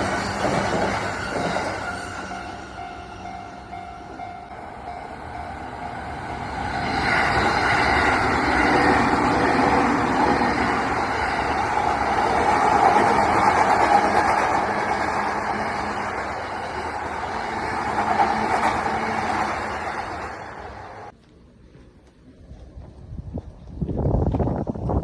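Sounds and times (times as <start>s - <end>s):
electric train passing: 0.0s - 21.2s.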